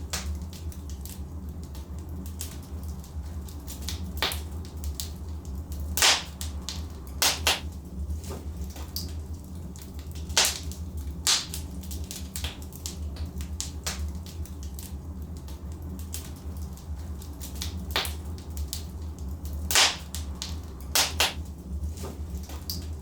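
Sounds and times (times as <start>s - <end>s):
logs crackling and popping: 0.0s - 23.0s
low rumble of fire: 0.0s - 23.0s.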